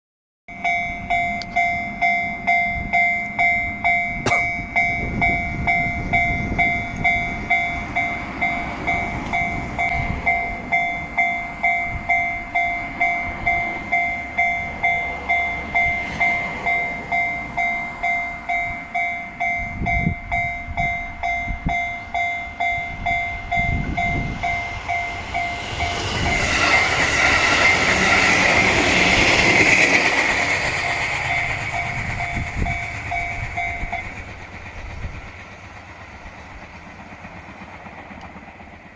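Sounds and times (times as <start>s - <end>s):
level crossing alarm bell: 0.5s - 34.2s
train rumble: 0.5s - 38.9s.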